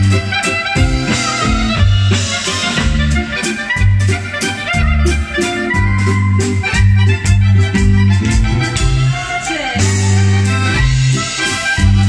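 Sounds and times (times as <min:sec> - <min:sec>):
button accordion: 0:00.0 - 0:12.0
dance band music: 0:00.0 - 0:12.0.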